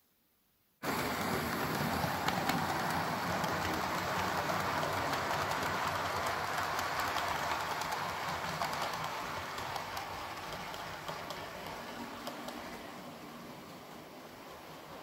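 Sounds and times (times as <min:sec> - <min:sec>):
model train whirring on track: 0:00.8 - 0:15.0.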